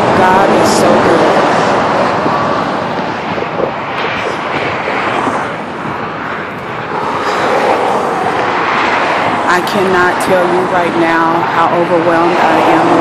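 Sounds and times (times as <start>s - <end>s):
freeway traffic passing: 0.0s - 13.0s.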